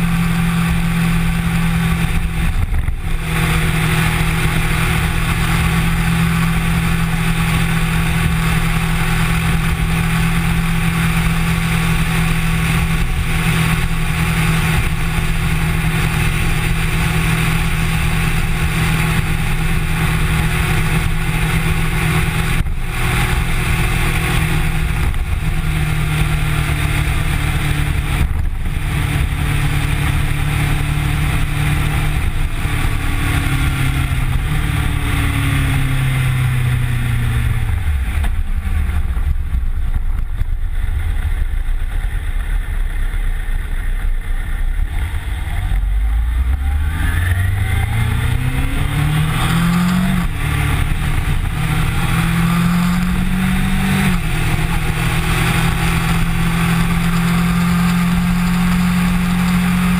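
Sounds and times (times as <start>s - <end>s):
motorcycle engine cruising: 0.0s - 59.9s
wind rumble on microphone: 0.0s - 59.9s.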